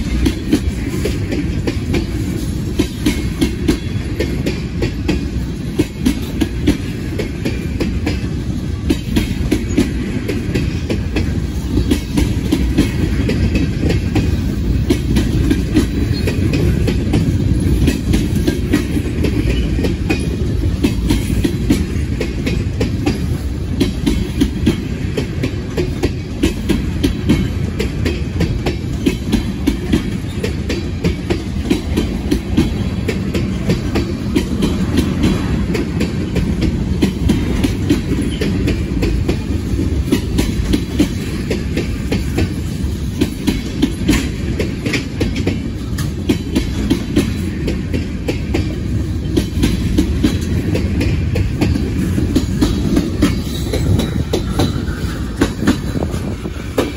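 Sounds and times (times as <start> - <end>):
freight train rumbling past: 0.0 - 56.9.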